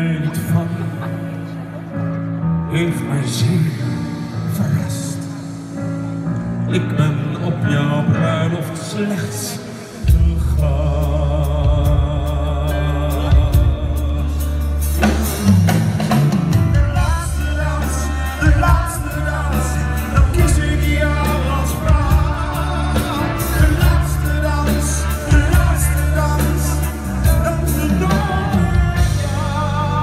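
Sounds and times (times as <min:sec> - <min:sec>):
live band playing: 0:00.0 - 0:30.0
man singing into a microphone: 0:00.0 - 0:30.0.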